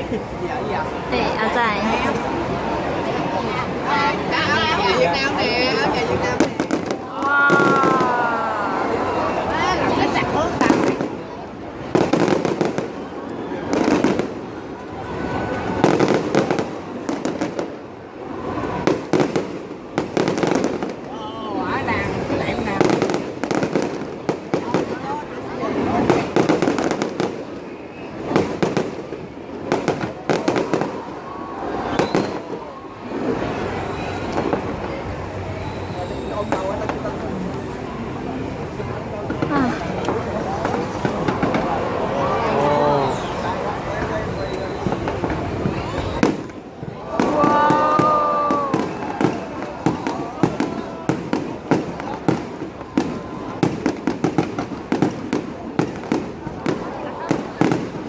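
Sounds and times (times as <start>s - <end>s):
fireworks cracking and popping: 5.8s - 37.7s, 38.7s - 42.1s, 43.0s - 58.0s.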